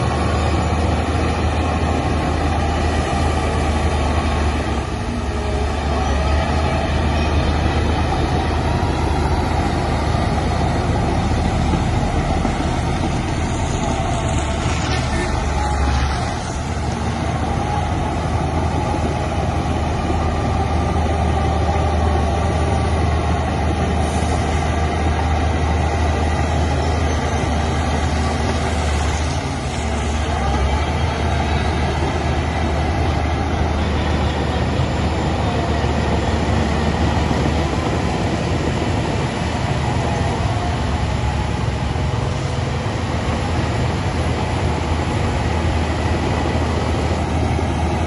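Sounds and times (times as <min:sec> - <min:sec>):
heavy machinery engine rumble: 0:00.0 - 0:48.0.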